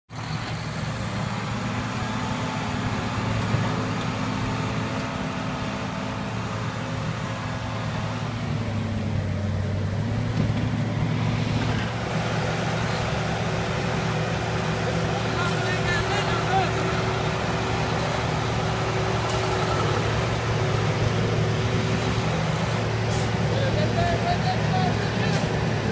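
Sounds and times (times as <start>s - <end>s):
heavy diesel engines droning: 0.1s - 25.9s.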